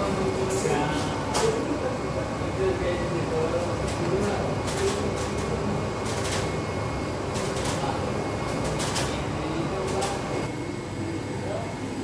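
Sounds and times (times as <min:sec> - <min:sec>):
printer mechanical hum: 0:00.0 - 0:12.0.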